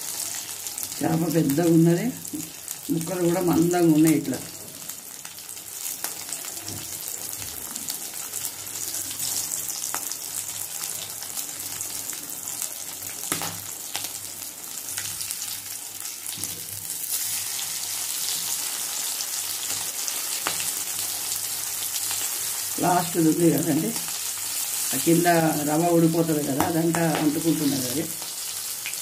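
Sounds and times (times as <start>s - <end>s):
fish sizzling in oil: 0.0s - 29.0s.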